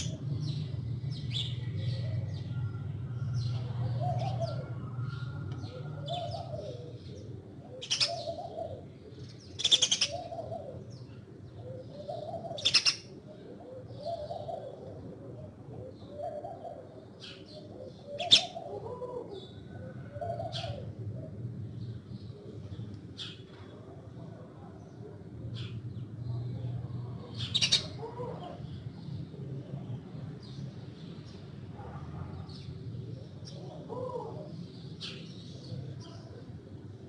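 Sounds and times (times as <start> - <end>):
doves cooing: 0.0 - 30.6, 31.4 - 37.0.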